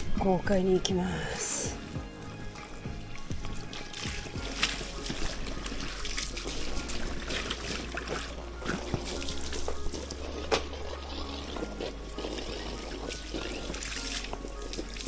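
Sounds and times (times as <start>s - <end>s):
water gushing from a hose: 1.1s - 15.0s
water splashing on concrete: 1.7s - 15.0s.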